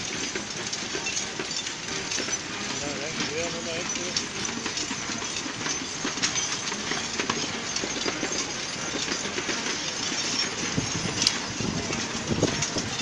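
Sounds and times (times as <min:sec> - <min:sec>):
carriage wheels rattling: 0:00.0 - 0:13.0
clatter of horse hooves: 0:00.0 - 0:13.0.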